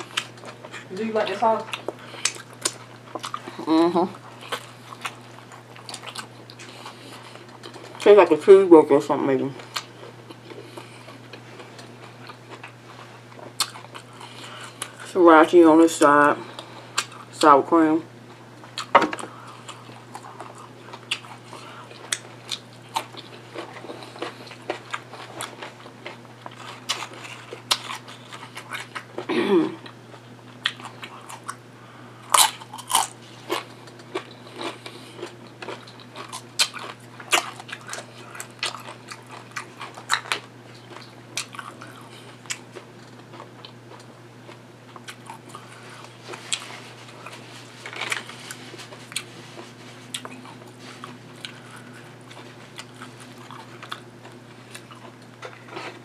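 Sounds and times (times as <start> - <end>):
chewing and crunching food: 0.0 - 8.6, 9.4 - 17.5, 18.3 - 56.0.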